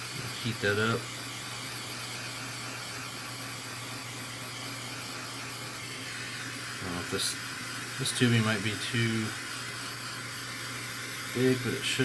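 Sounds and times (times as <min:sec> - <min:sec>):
torch hissing: 0:00.0 - 0:12.0.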